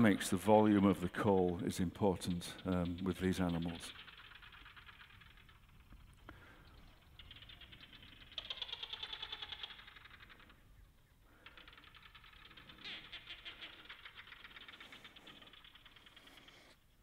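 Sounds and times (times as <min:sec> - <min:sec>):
geckos clicking: 0:00.0 - 0:17.0.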